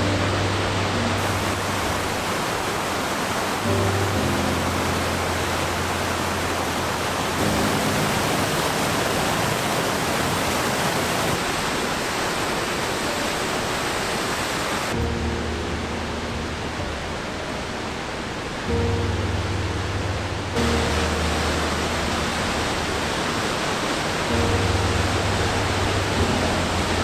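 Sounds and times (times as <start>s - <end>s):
low sustained background music: 0.0s - 27.0s
waterfall roaring: 0.0s - 27.0s.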